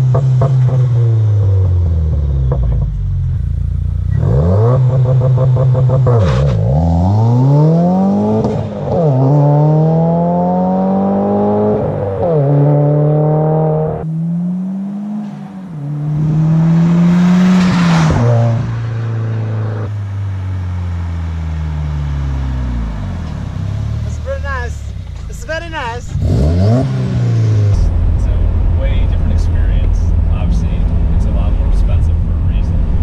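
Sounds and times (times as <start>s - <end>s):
car engine revving through gears: 4.1s - 19.9s, 21.9s - 33.0s.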